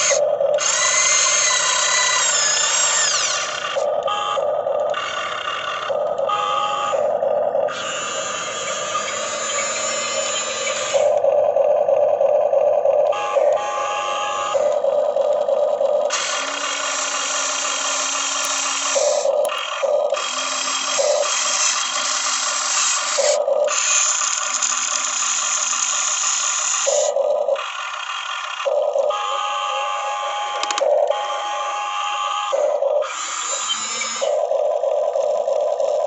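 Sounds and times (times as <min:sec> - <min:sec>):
small electric motors whining: 0:00.0 - 0:36.0.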